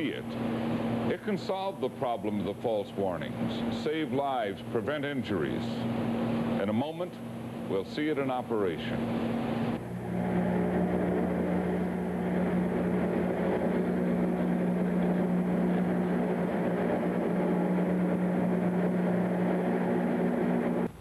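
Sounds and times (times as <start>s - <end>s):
machinery hum with low tones: 0.0s - 21.0s.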